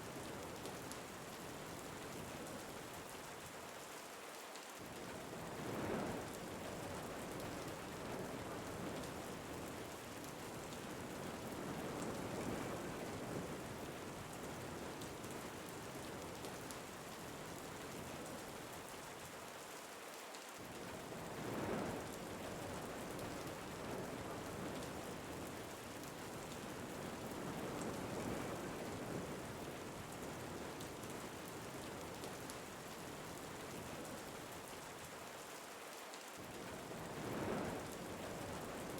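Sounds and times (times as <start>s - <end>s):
steady rain falling: 0.0s - 38.9s
wind: 0.0s - 38.9s.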